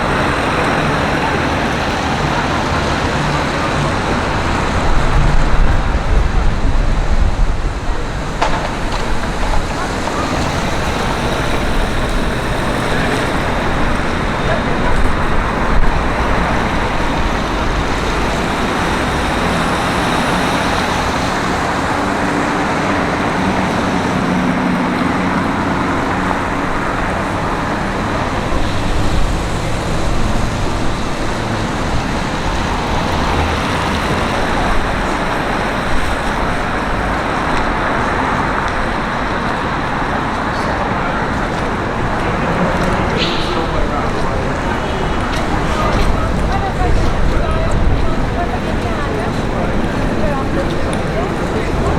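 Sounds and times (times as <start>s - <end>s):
passing cars: 0.0s - 51.9s
vehicle engine: 0.0s - 51.9s.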